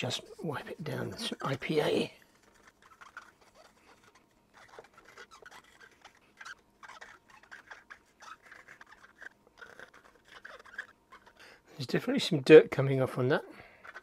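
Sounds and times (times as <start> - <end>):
scratchy rubbing on circuit board: 0.0 - 11.4.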